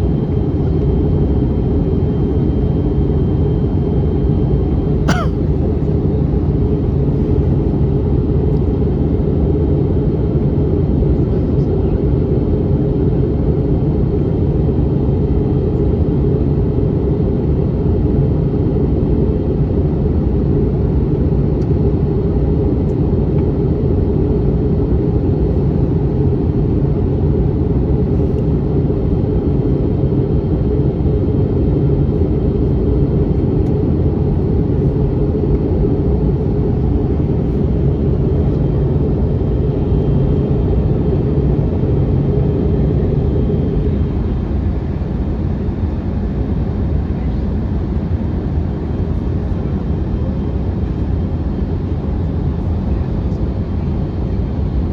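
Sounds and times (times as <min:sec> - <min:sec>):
aircraft cabin rumble: 0:00.0 - 0:12.6, 0:21.5 - 0:54.9.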